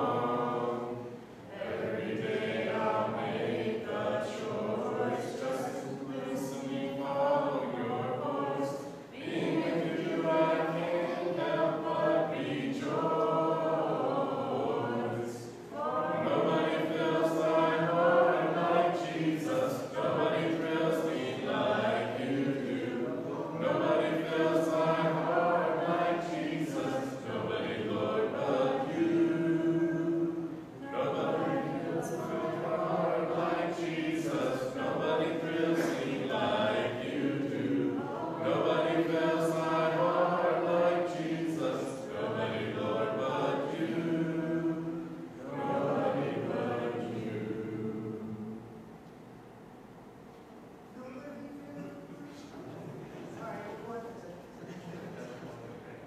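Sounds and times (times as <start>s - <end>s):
congregation singing a hymn: 0.0s - 49.4s.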